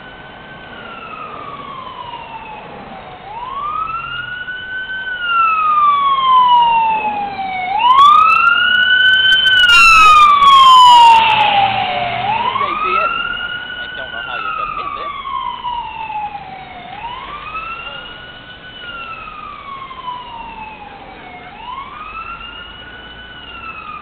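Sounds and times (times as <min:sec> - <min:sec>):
fire engine siren wailing: 0:00.0 - 0:24.0
quicker siren sweeps: 0:00.0 - 0:24.0.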